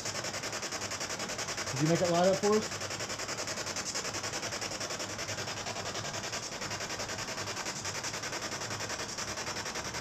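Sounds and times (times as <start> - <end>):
pulses of hissing radio static: 0.0 - 10.0.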